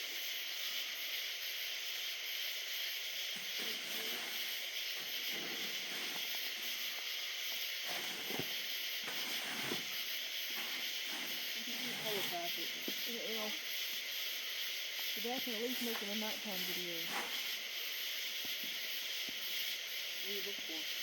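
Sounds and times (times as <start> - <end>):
night insect chorus: 0.0 - 21.0.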